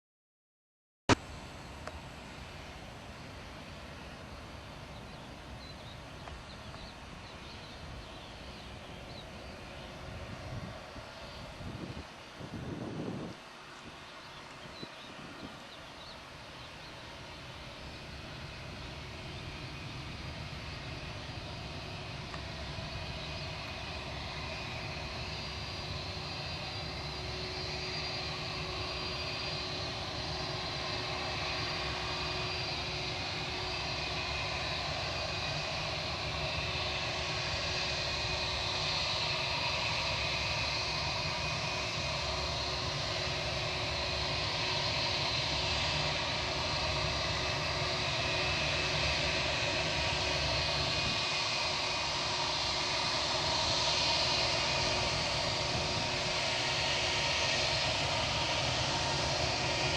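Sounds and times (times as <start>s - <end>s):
jet engines roaring with high whine: 1.1s - 59.9s.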